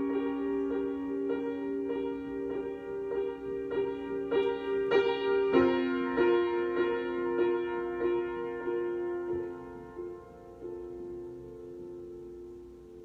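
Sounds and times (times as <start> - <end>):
solo piano chords: 0.0 - 13.0.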